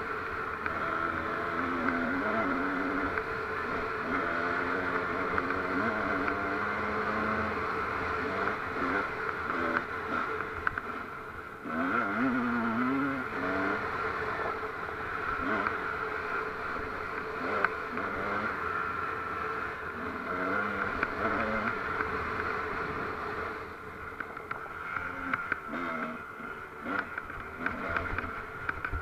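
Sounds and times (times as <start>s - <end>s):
steady whine: 0.0s - 29.0s
vehicle engine running: 0.0s - 29.0s.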